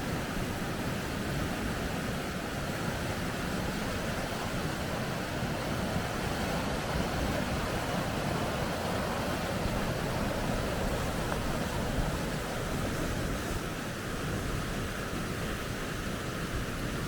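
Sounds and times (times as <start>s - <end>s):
water rushing through rapids: 0.0s - 17.0s.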